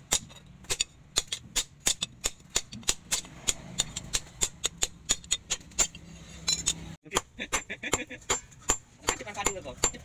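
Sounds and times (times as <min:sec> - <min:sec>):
hammer striking metal on anvil: 0:00.0 - 0:10.0.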